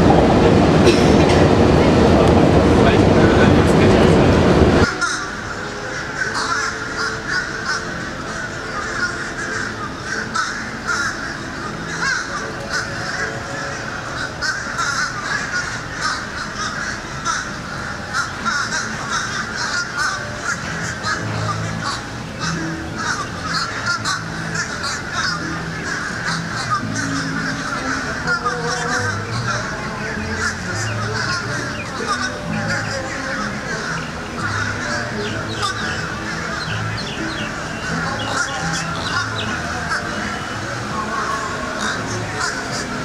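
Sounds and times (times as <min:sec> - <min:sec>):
flock of birds calling: 0:00.0 - 0:43.0.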